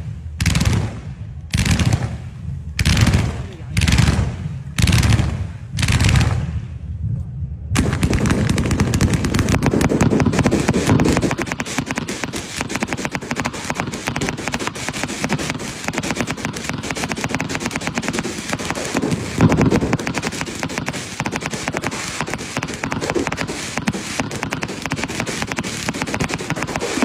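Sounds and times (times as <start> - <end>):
firework bangs: 0.0 - 6.8, 7.8 - 27.0
rapid firework crackling: 0.0 - 6.8, 7.8 - 27.0.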